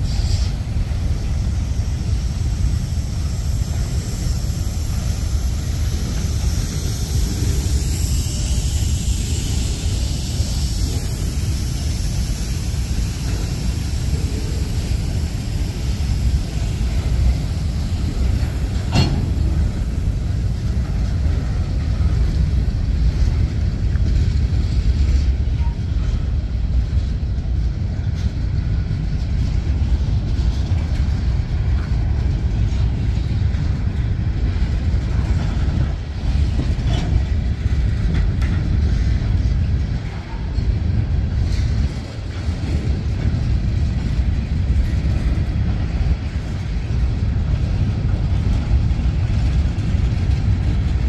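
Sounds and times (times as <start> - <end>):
freight cars rumbling on rails: 0.0 - 51.0.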